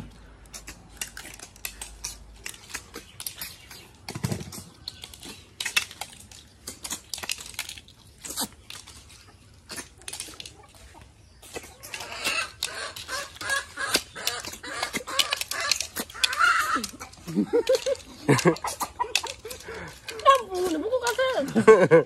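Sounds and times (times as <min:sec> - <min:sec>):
people sucking and chewing: 0:00.0 - 0:22.0
snail shells clicking on plates: 0:00.1 - 0:22.0.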